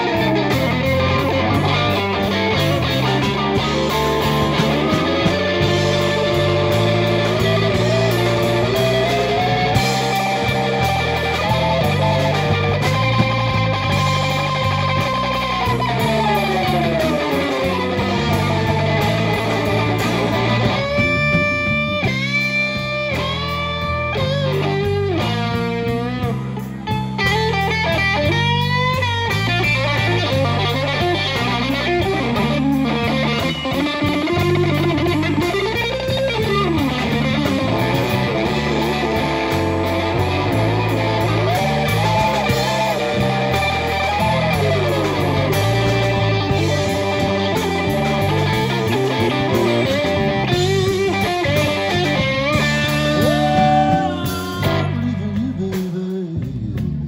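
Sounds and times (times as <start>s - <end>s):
blues band playing: 0.0s - 57.0s
drum kit: 0.0s - 57.0s
electric bass: 0.0s - 57.0s
electric guitar sliding and bending: 0.0s - 57.0s.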